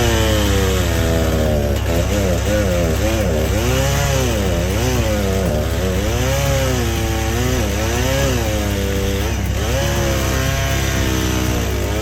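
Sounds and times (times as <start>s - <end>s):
chainsaw engine revving: 0.0s - 12.0s
steady low hum: 0.0s - 12.0s.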